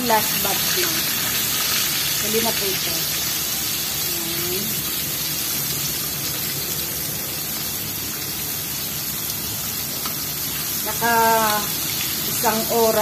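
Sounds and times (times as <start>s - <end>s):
chicken frying in bubbling oil: 0.0s - 13.0s.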